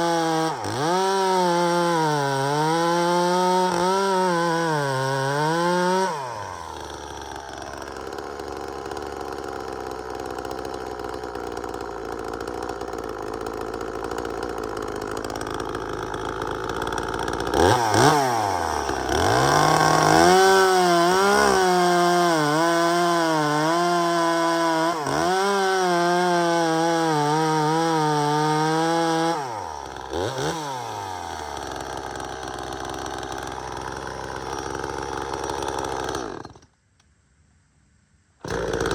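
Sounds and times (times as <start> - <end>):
chainsaw cutting wood: 0.0 - 36.8, 38.4 - 38.9
chainsaw idling and revving: 0.0 - 36.8, 38.4 - 38.9.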